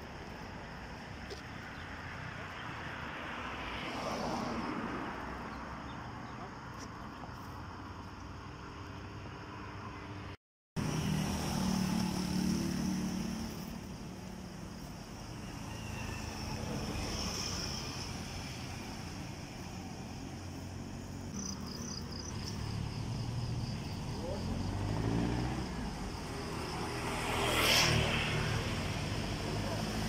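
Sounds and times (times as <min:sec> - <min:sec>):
road traffic hum: 0:00.0 - 0:30.0.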